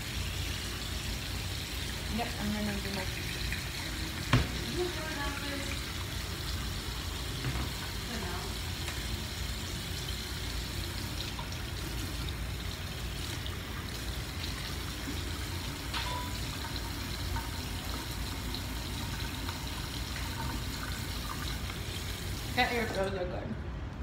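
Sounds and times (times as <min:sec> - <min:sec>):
tap water running into sink: 0:00.0 - 0:23.2.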